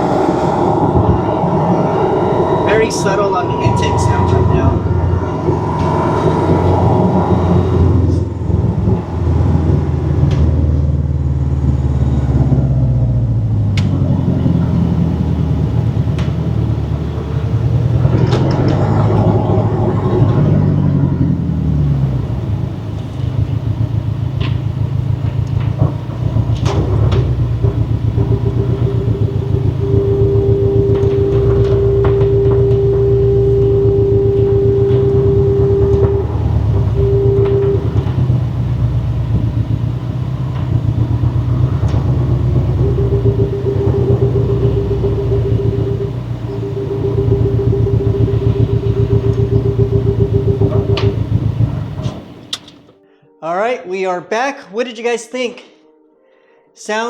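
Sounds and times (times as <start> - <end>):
steady high tone: 0.0 - 25.1, 25.8 - 52.6
car engine revving with gear changes: 0.0 - 52.8
turbo intake noise: 0.0 - 52.8.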